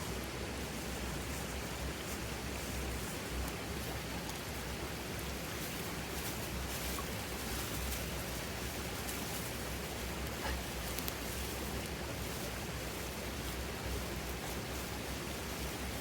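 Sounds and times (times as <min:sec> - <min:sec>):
campfire hissing and crackling: 0:00.0 - 0:16.0.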